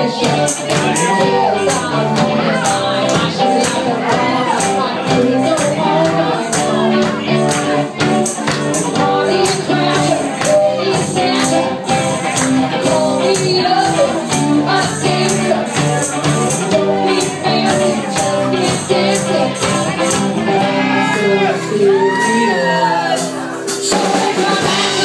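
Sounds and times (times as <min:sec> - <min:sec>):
bass guitar: 0:00.0 - 0:25.0
drums keeping a steady beat: 0:00.0 - 0:25.0
electric guitars: 0:00.0 - 0:25.0
woman singing into a microphone: 0:00.0 - 0:25.0.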